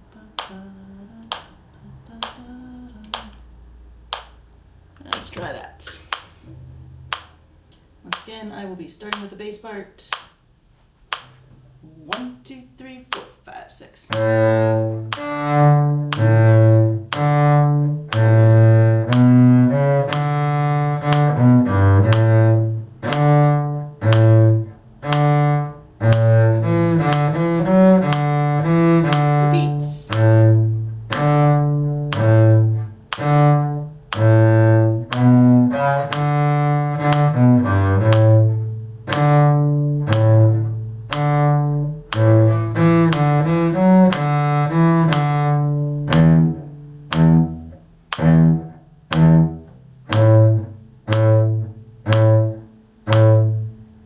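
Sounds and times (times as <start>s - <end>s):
bowed cello notes: 0.0s - 4.3s, 14.1s - 54.0s.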